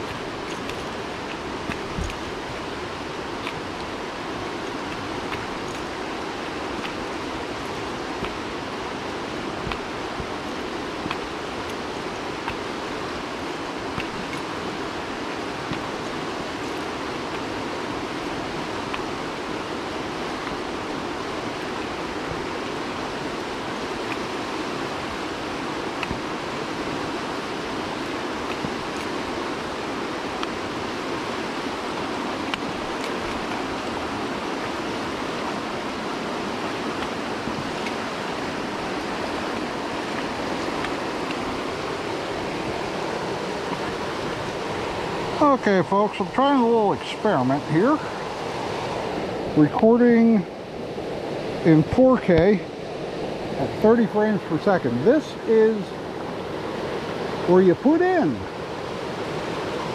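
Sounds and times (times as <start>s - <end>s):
river whitewater rushing: 0.0s - 59.9s.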